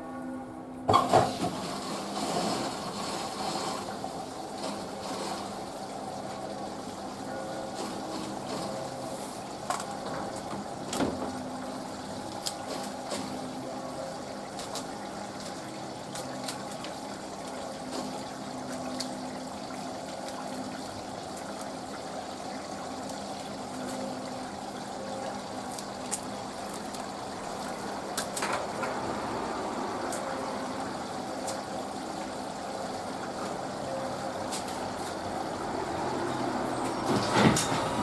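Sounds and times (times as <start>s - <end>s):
low machine hum: 0.0s - 38.0s
water running into washing machine: 0.9s - 38.0s.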